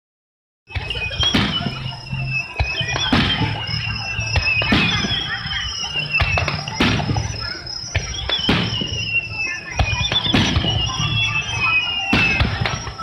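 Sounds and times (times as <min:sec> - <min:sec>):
fireworks bursting: 0:00.7 - 0:13.0.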